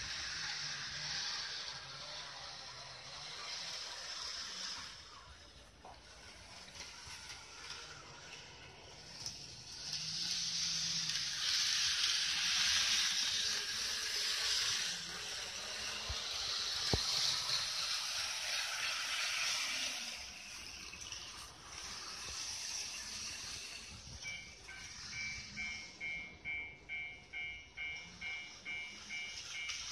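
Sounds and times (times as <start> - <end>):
model train motor and wheels whirring: 0.0 - 29.9.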